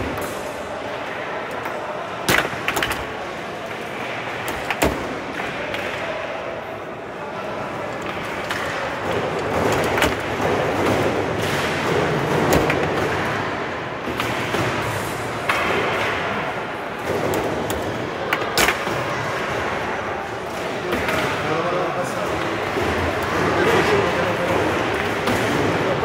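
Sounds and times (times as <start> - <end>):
steady noisy background: 0.0 - 26.0.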